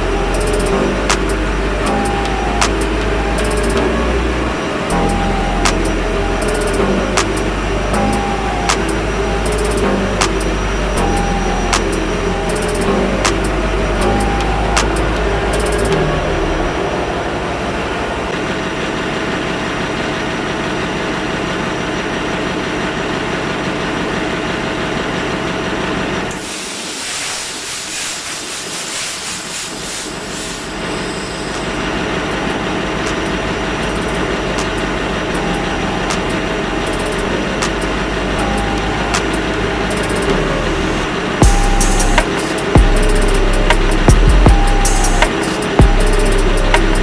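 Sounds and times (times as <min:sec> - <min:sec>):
engine room machinery humming: 0:00.0 - 0:47.0.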